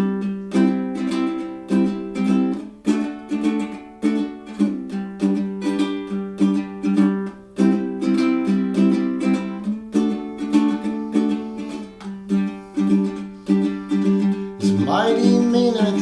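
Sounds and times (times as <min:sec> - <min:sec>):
ukulele strumming chords: 0:00.0 - 0:16.0.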